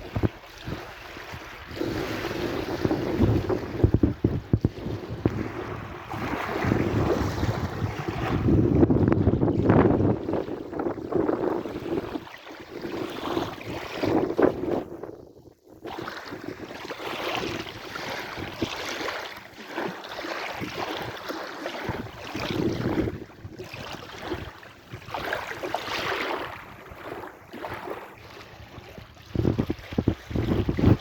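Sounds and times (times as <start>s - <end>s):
sea waves washing ashore: 0.0s - 15.0s, 15.8s - 31.0s.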